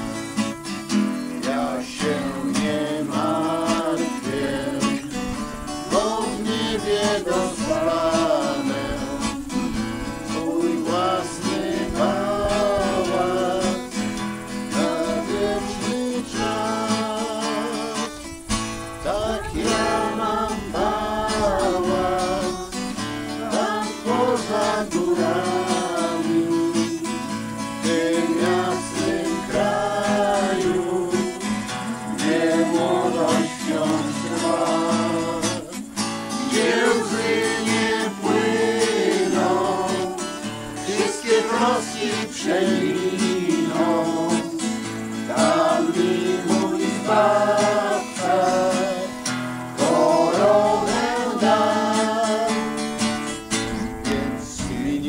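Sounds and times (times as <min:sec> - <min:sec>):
acoustic guitar strumming: 0:00.0 - 0:55.0
person singing: 0:01.4 - 0:14.0, 0:14.6 - 0:18.3, 0:19.0 - 0:49.2, 0:49.8 - 0:52.8, 0:53.9 - 0:55.0.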